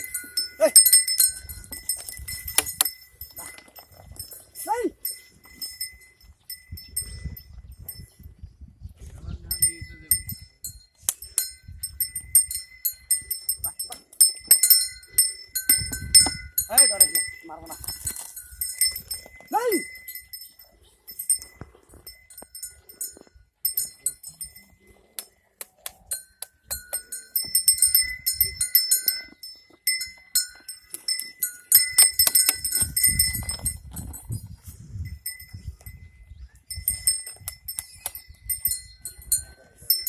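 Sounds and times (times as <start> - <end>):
small bells jingling: 0.0 - 8.4, 9.4 - 40.0.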